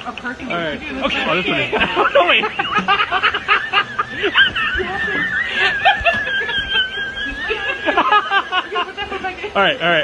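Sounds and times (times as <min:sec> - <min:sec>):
people snickering and laughing: 0:00.6 - 0:09.6.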